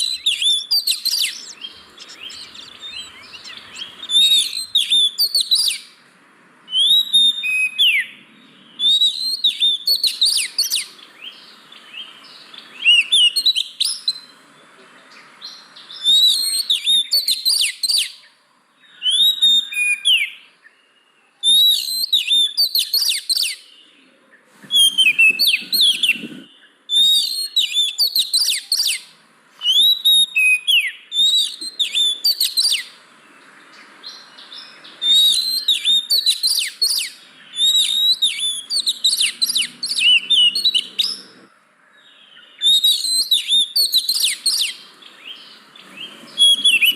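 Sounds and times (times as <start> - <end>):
songbird whistling phrases: 0.0 - 5.9, 6.7 - 14.4, 15.2 - 23.8, 24.7 - 33.0, 34.0 - 41.4, 42.2 - 46.9.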